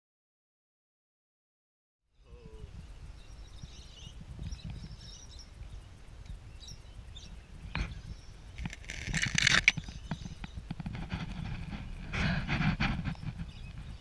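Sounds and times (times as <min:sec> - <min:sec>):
faint bird chirps: 0:02.1 - 0:11.4, 0:12.0 - 0:14.0.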